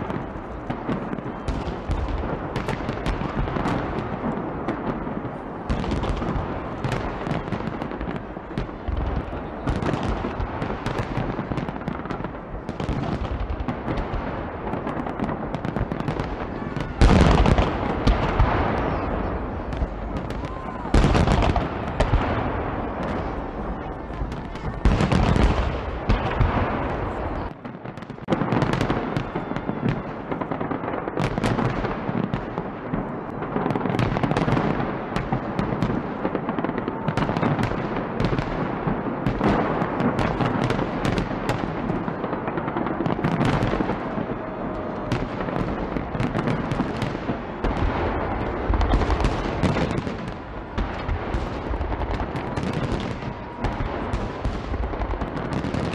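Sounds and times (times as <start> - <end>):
fireworks bursting and crackling: 0.0 - 55.9
heavy firework booms: 0.0 - 55.9.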